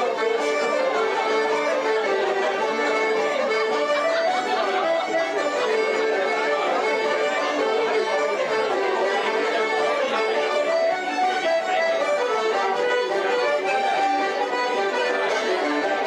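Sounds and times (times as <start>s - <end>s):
accordion: 0.0s - 16.0s
banjos: 0.0s - 16.0s
fiddles playing in unison: 0.0s - 16.0s.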